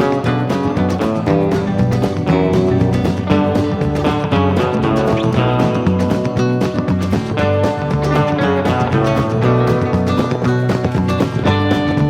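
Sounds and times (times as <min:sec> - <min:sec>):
strummed country guitar music: 0:00.0 - 0:12.0.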